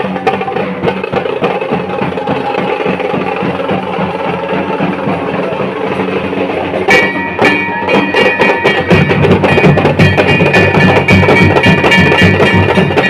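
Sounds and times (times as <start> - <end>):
dhol drumming: 0.0 - 13.0.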